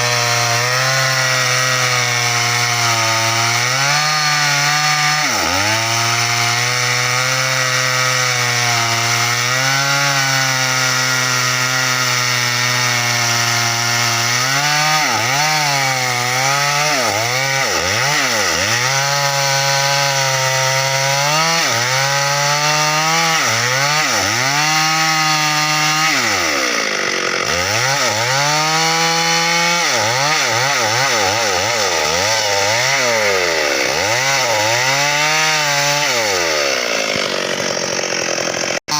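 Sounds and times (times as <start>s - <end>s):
chainsaw cutting branches: 0.0s - 38.9s.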